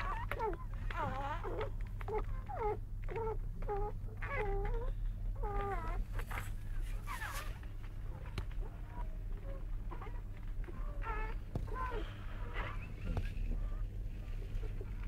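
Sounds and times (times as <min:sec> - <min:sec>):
newborn puppies whimpering: 0:00.0 - 0:15.0.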